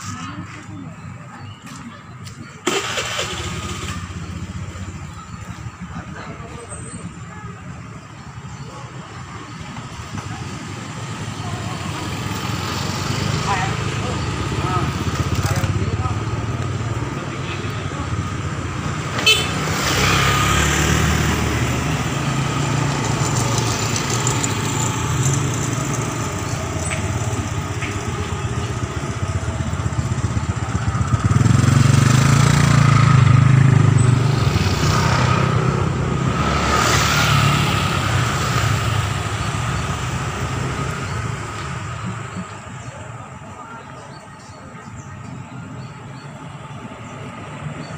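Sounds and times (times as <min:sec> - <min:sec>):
motorcycle engine running: 0:02.7 - 0:47.9.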